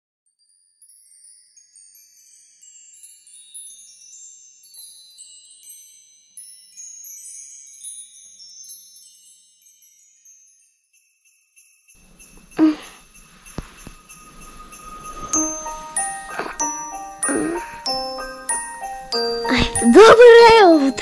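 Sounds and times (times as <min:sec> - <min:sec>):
twinkling chimes: 0:00.8 - 0:21.0.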